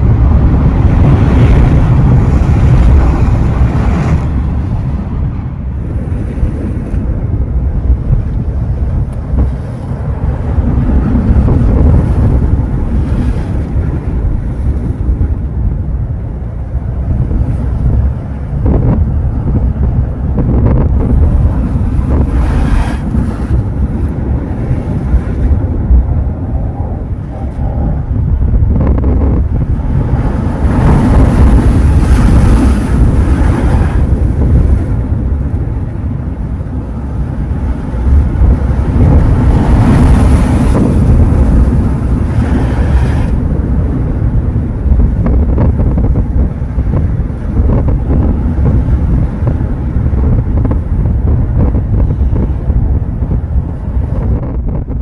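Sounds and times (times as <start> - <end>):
sea waves breaking on shore: 0.0 - 55.0
wind buffeting microphone: 0.0 - 55.0.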